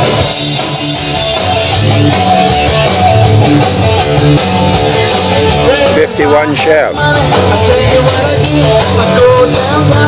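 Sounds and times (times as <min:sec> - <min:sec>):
live band playing: 0:00.0 - 0:10.0.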